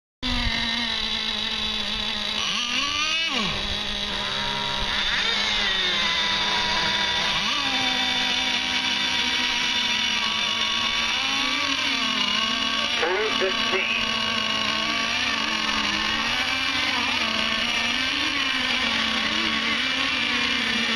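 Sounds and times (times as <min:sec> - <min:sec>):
model boat engines whining: 0:00.2 - 0:20.9.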